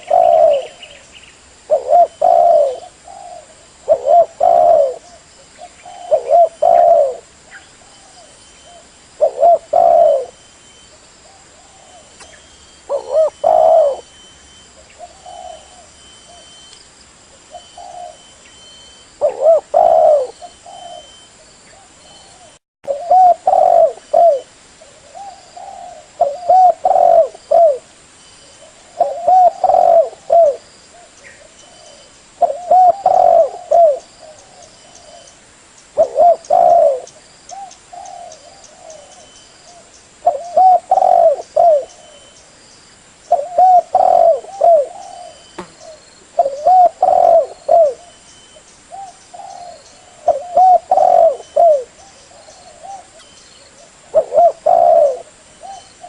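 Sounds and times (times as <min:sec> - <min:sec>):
dove cooing: 0:00.0 - 0:01.0, 0:01.7 - 0:16.6, 0:17.4 - 0:27.9, 0:28.5 - 0:35.4, 0:36.0 - 0:42.4, 0:43.3 - 0:48.3, 0:48.9 - 0:56.0.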